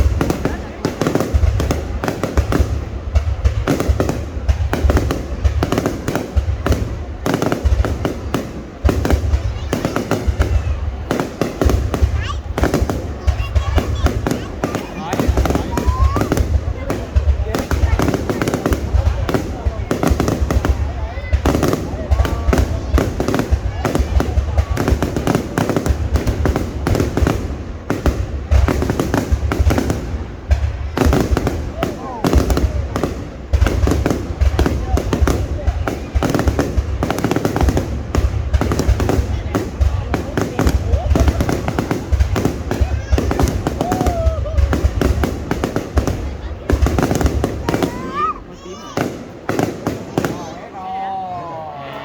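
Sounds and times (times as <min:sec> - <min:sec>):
fireworks crackling pops: 0:00.0 - 0:50.6
fireworks deep booms: 0:00.0 - 0:50.6.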